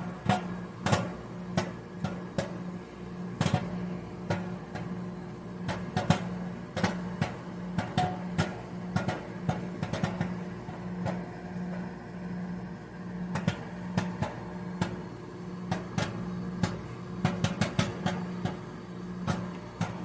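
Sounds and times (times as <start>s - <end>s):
microwave oven humming: 0.0s - 20.0s
popcorn popping in paper bag: 0.0s - 20.0s.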